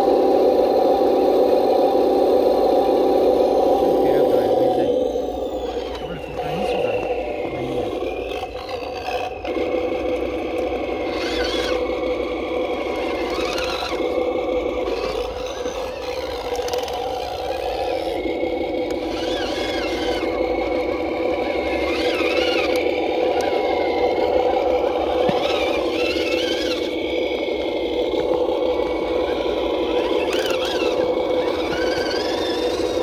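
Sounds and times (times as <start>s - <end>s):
toy truck motor whining: 0.0s - 33.0s.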